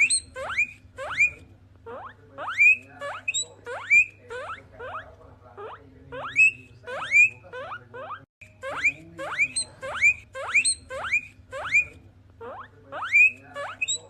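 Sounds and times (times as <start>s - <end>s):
guinea pigs wheeking: 0.0s - 14.0s.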